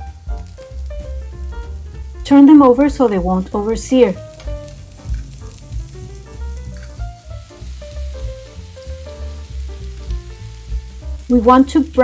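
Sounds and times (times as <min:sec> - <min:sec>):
background music with steady beat: 0:00.0 - 0:12.0
meatballs sizzling in oil: 0:00.0 - 0:12.0.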